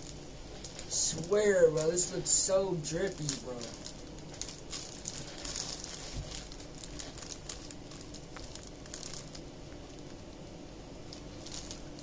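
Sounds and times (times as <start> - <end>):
plastic bags crinkling: 0.0 - 10.3, 11.0 - 12.0.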